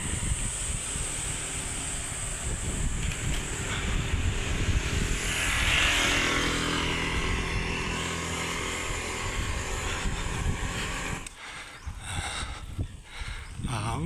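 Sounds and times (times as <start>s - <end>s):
motorcycle engine running: 0.0s - 11.9s
wind rushing over microphone: 0.0s - 14.0s.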